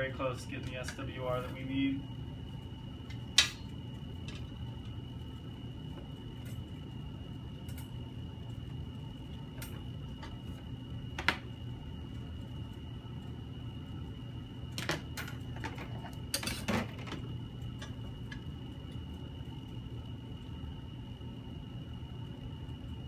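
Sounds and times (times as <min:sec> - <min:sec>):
electrical hum: 0:00.0 - 0:23.0
faint high whine: 0:00.0 - 0:23.0.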